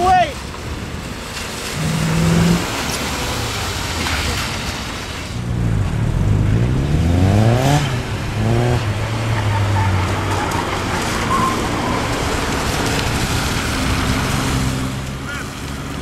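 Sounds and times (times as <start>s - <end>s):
tyres hissing on wet pavement: 0.0s - 5.6s, 7.6s - 16.0s
car engine revving: 1.4s - 16.0s.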